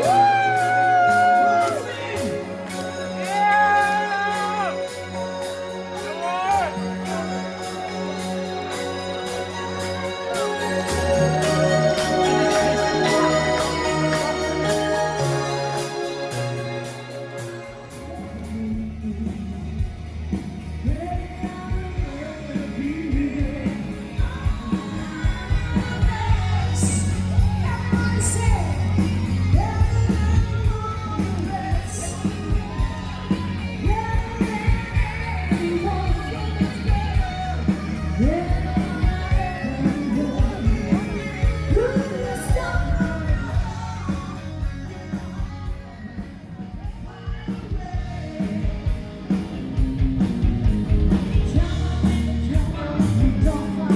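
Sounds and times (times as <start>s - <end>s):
person singing: 0.0s - 49.4s, 51.2s - 53.9s
heavy bass: 0.0s - 53.9s
live band music: 0.0s - 53.9s.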